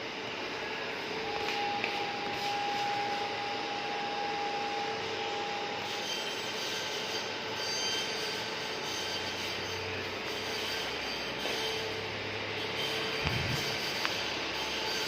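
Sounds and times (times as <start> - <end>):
air conditioner fan noise: 0.0 - 15.0
thin steady whine: 0.0 - 15.0.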